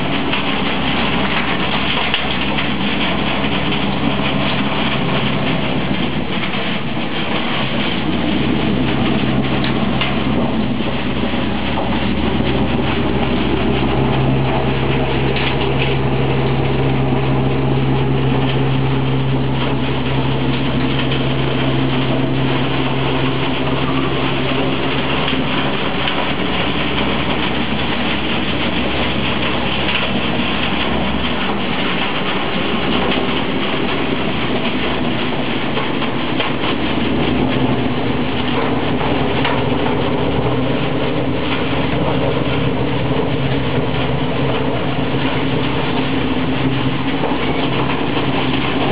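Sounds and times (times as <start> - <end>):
hay rushing through pipe: 0.0 - 48.9
low fan hum: 0.0 - 48.9.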